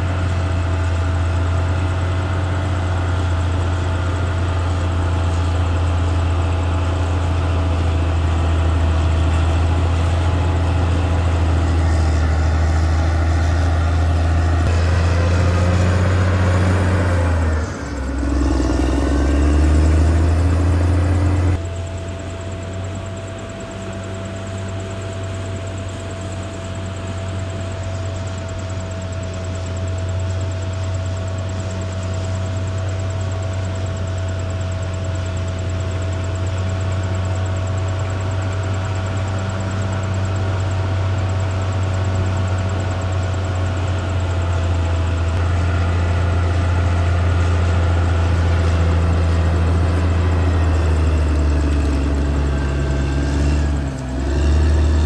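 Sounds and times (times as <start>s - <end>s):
bulldozer diesel engine droning: 0.0s - 55.0s
thin steady whine: 0.0s - 55.0s.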